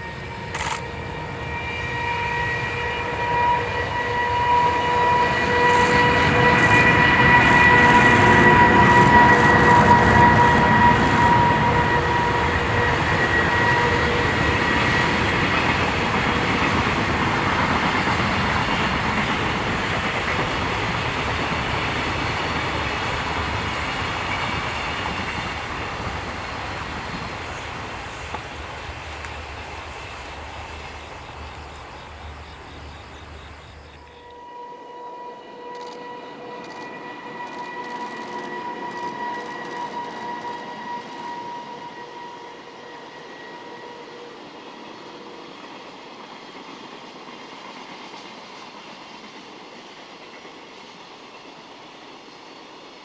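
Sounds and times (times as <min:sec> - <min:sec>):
train passing on rails: 0:00.0 - 0:53.0.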